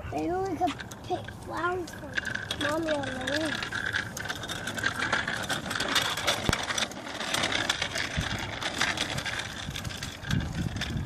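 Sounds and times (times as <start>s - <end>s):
bicycle ticks and rattles: 0.0s - 11.0s
tyre and road noise: 0.0s - 11.0s.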